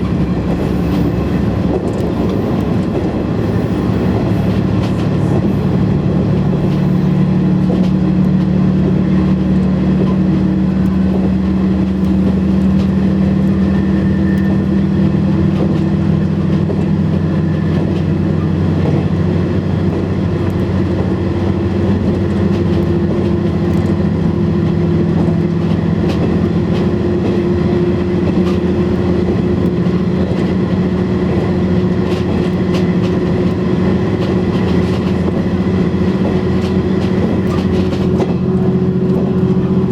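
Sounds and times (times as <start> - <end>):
diesel engine humming: 0.0 - 39.9
train wheels rumbling on rails: 0.0 - 39.9.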